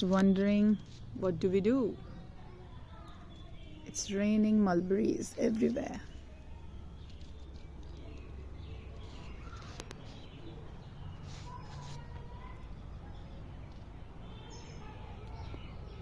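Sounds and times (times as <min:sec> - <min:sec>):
birds calling: 0:00.0 - 0:16.0
low background noise: 0:00.0 - 0:16.0.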